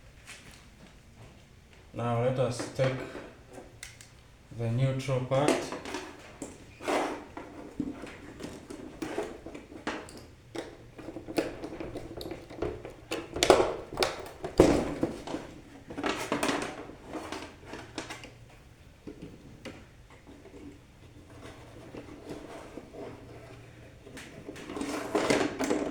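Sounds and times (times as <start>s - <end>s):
wire and tools rustling: 0.2s - 25.9s.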